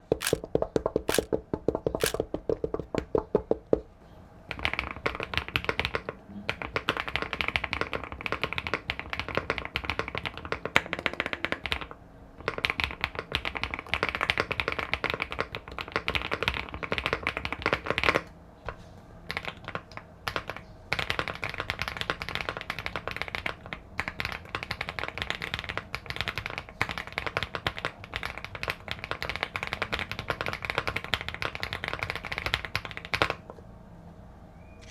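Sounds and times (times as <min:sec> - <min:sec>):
typing on mechanical keyboard: 0:00.0 - 0:03.6, 0:04.5 - 0:18.3, 0:19.3 - 0:33.4.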